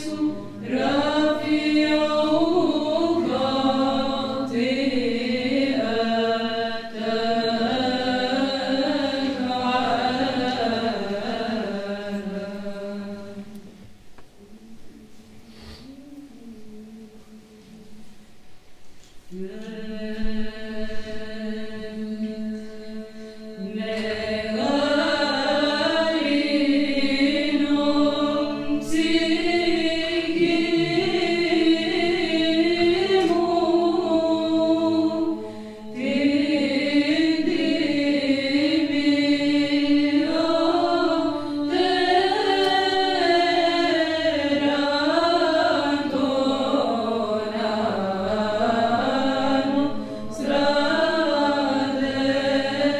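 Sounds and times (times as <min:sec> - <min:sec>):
women's choir chanting: 0:00.0 - 0:13.8, 0:19.3 - 0:52.9.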